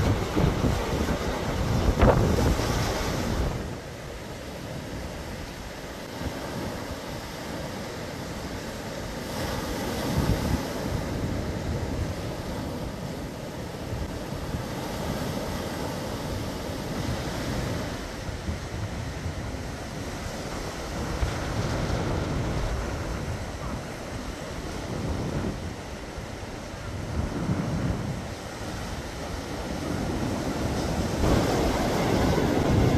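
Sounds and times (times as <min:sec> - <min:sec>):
sea waves breaking: 0:00.0 - 0:32.9
wind rumbling on microphone: 0:00.0 - 0:32.9.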